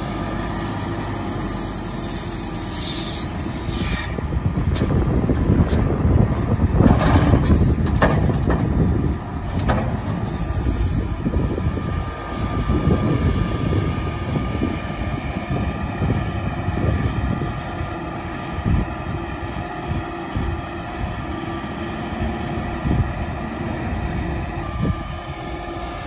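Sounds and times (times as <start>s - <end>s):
heavy machinery rumbling: 0.0s - 26.0s.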